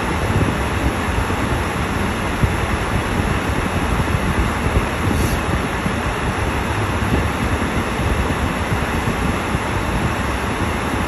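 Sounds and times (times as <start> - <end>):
rushing noise with low rumble in car: 0.0 - 11.0.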